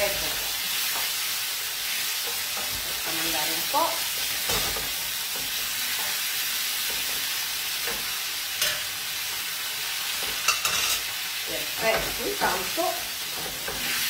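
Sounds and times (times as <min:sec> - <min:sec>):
food sizzling in frying pans: 0:00.0 - 0:14.0.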